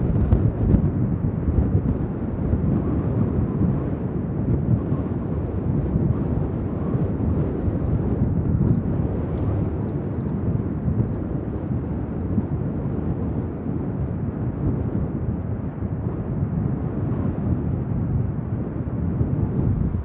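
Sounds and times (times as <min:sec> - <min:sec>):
turboprop aircraft taxiing rumble: 0:00.0 - 0:20.0.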